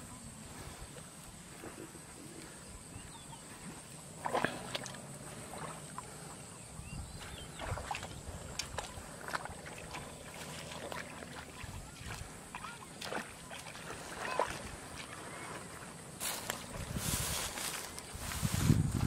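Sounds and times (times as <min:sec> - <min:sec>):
wading through shallow water and mud: 0:00.0 - 0:19.0.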